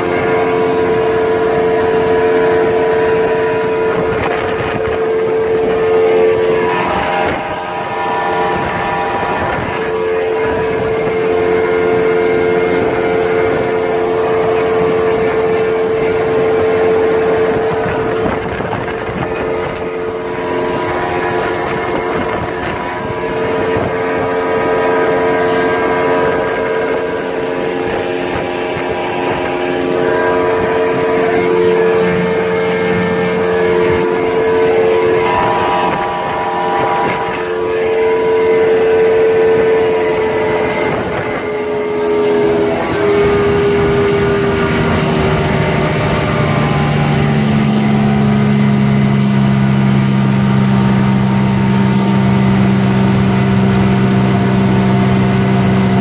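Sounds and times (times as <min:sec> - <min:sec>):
outboard motor running: 0:00.0 - 0:56.0
rush of wind and water: 0:00.0 - 0:56.0.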